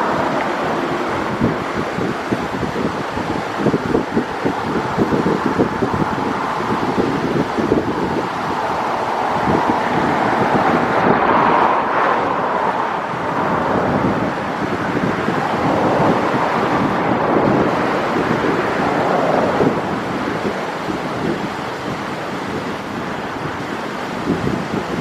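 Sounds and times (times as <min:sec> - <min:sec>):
sea surf rushing: 0:00.0 - 0:25.0
wind buffeting microphone: 0:00.0 - 0:25.0.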